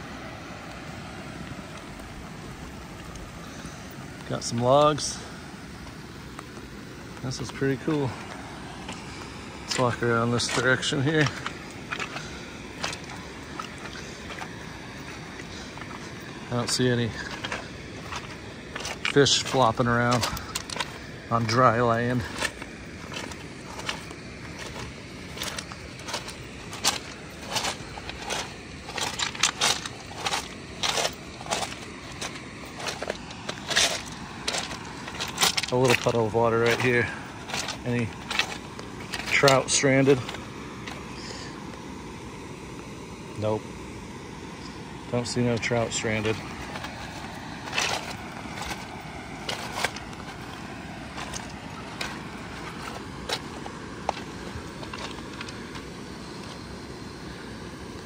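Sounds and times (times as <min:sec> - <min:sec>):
footsteps crunching on gravel: 0:00.0 - 0:41.6, 0:45.2 - 0:56.9
light rain hiss: 0:00.0 - 0:58.0.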